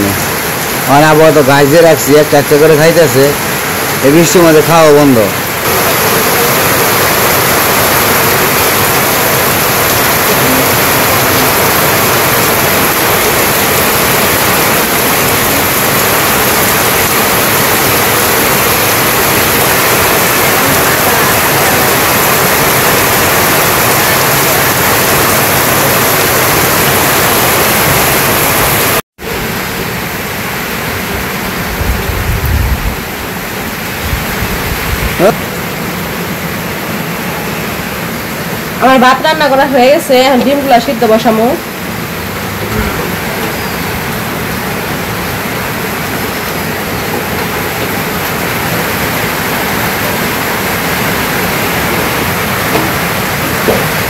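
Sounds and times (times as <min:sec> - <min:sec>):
heavy rain on tin roof: 0:00.0 - 0:54.0.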